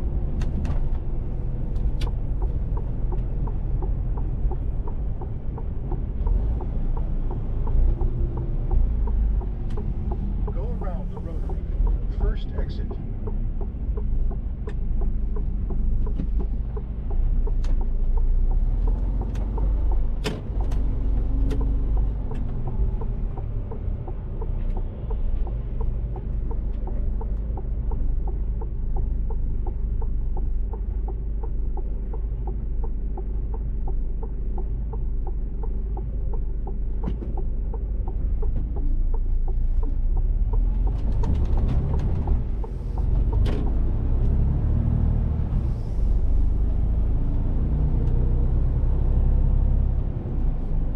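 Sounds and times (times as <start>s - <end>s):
regular ticking: 0.0s - 45.6s
truck engine and road rumble: 0.0s - 50.9s.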